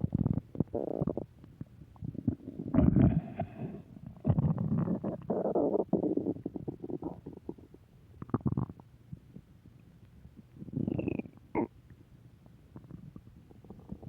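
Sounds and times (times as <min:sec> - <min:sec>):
stomach growling: 0:00.0 - 0:09.4, 0:10.5 - 0:11.7, 0:12.8 - 0:14.0.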